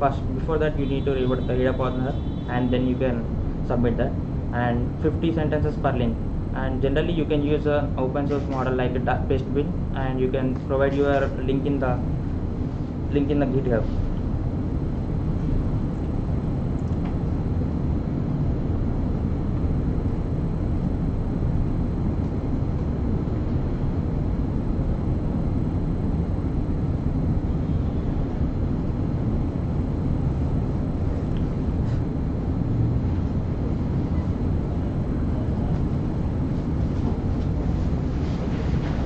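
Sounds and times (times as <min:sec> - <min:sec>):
steady low rumbling: 0:00.0 - 0:39.0.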